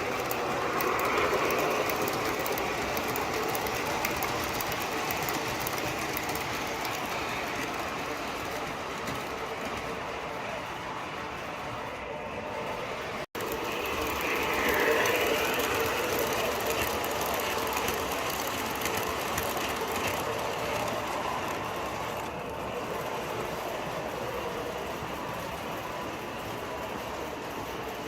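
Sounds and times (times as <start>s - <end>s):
model train clattering on track: 0.0s - 11.0s, 13.4s - 28.0s
model train onboard sound effects: 0.0s - 28.0s.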